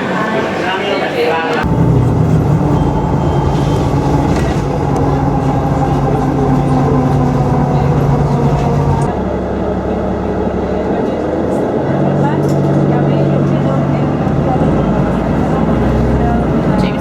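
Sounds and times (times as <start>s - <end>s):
low mechanical drone: 1.6s - 17.0s.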